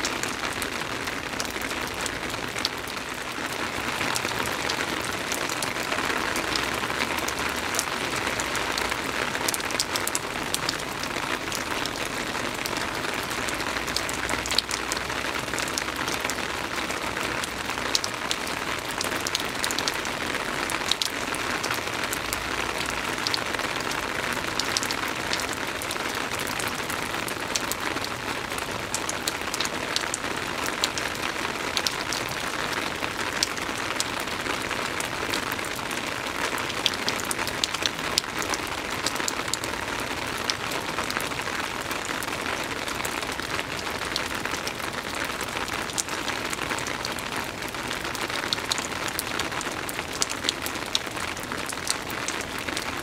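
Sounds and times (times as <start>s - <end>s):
soft rain falling: 0.0s - 53.0s.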